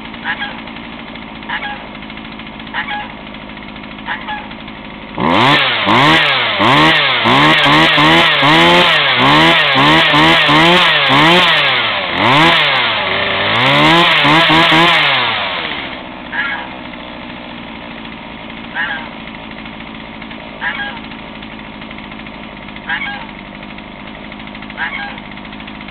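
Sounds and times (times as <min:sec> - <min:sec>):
chainsaw revving and idling: 0:00.0 - 0:25.9.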